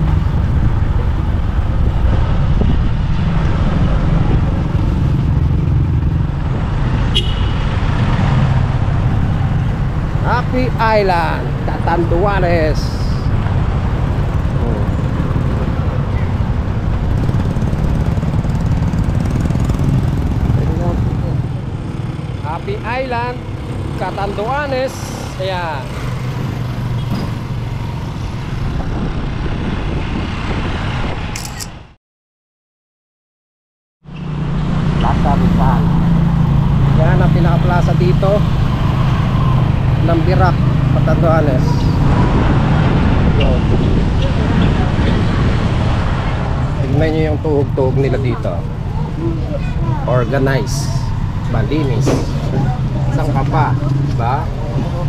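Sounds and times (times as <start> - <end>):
vehicle rumble and road noise: 0.0 - 32.0, 34.1 - 55.0.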